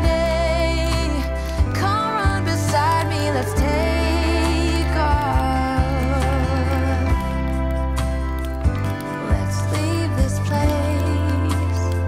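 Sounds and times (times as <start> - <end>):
pop song: 0.0 - 12.0.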